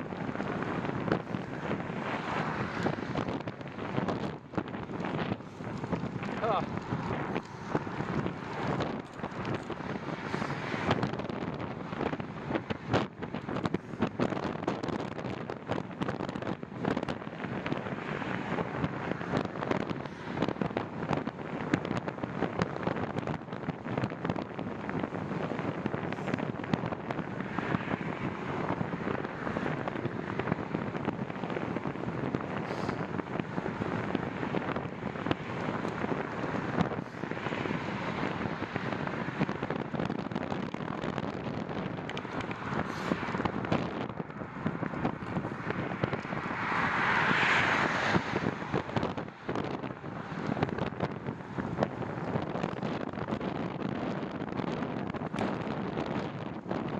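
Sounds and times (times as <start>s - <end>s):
sharp crackles and pops: 0.0s - 56.9s
wind buffeting microphone: 0.0s - 56.9s.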